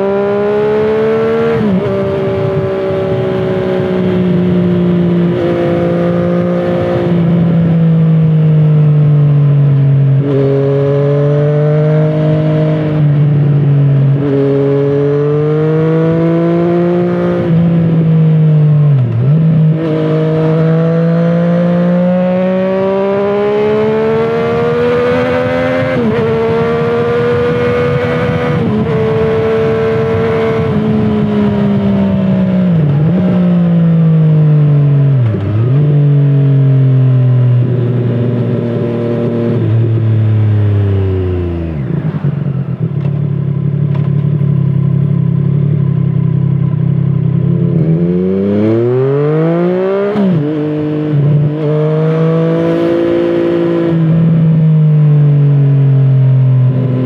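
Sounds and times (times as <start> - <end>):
motorcycle engine revving through gears: 0.0 - 57.0
wind and road noise: 0.0 - 57.0.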